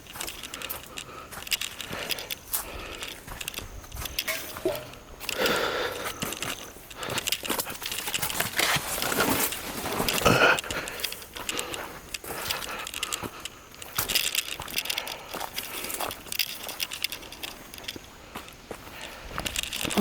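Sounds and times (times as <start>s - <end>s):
footsteps crunching leaves and twigs: 0.0s - 20.0s.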